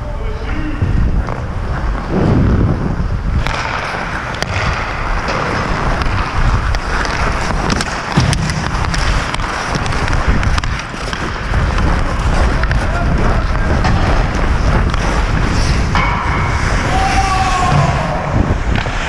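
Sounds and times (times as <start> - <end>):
wind buffeting microphone: 0.0 - 19.0
skates scraping on ice: 0.2 - 19.0.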